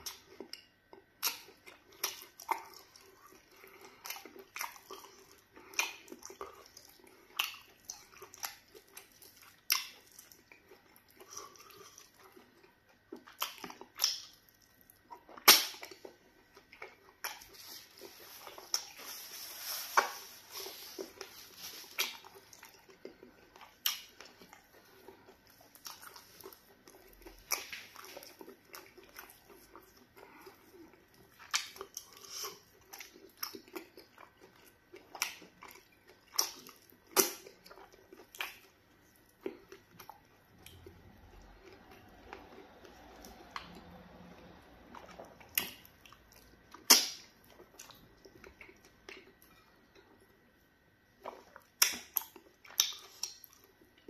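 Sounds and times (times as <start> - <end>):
wet chewing and lip smacks: 0.0 - 17.8, 21.9 - 50.4, 51.2 - 54.0.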